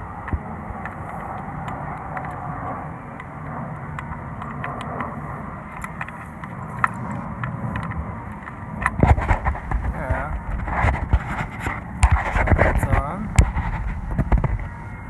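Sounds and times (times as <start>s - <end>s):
vehicle traffic rumble: 0.0s - 15.0s.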